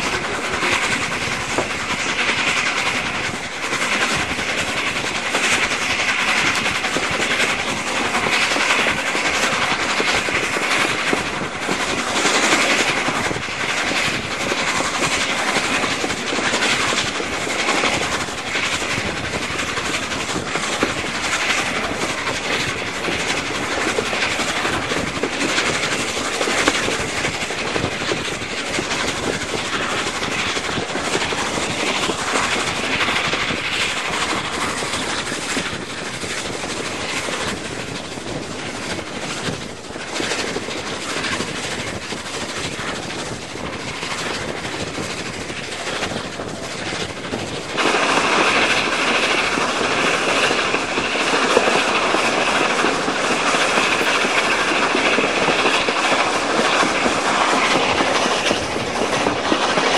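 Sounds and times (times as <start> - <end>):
train wheel and rail noise: 0.0 - 59.9
wind rushing: 0.0 - 59.9.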